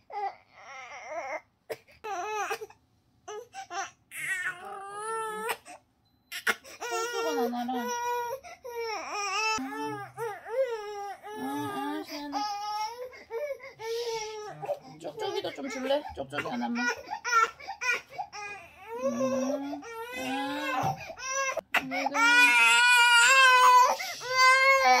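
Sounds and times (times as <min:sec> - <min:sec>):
baby crying: 0:03.3 - 0:05.7, 0:06.3 - 0:25.0.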